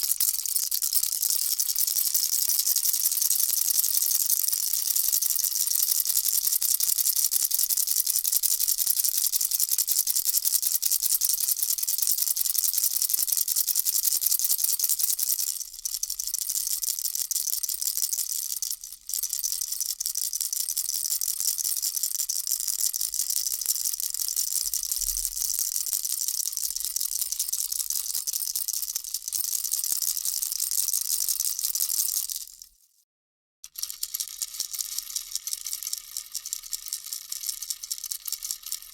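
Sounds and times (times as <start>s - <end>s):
baby rattle shaken: 0.0s - 32.7s, 33.6s - 38.9s.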